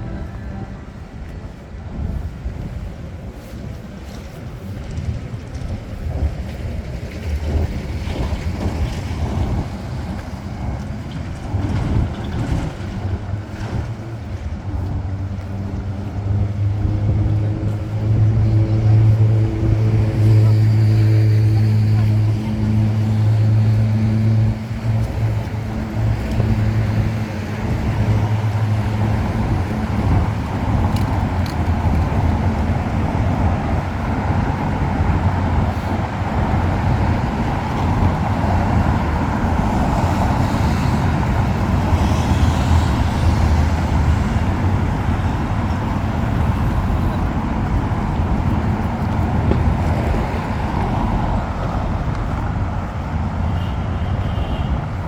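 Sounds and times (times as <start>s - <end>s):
low engine hum: 0.0s - 55.0s
road traffic rumble: 0.0s - 55.0s.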